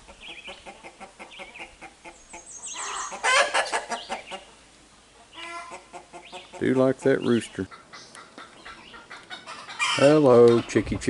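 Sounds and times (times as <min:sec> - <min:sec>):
chickens squawking loudly: 0:00.0 - 0:10.8
chickens clucking: 0:00.0 - 0:11.0.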